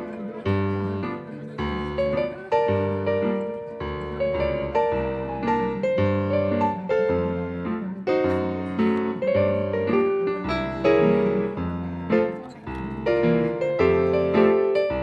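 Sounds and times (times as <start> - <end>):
background piano music: 0.0 - 15.0.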